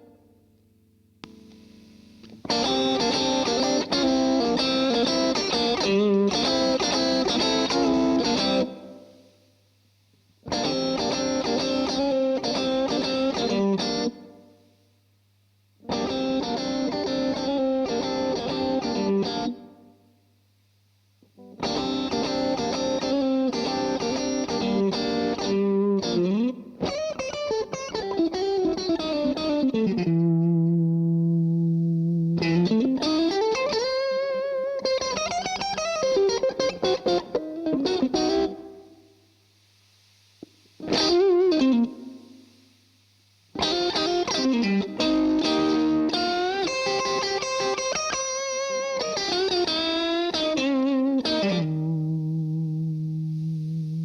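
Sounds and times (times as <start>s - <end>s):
distorted electric guitar: 1.2s - 9.3s, 10.4s - 14.6s, 15.8s - 19.8s, 21.2s - 54.0s.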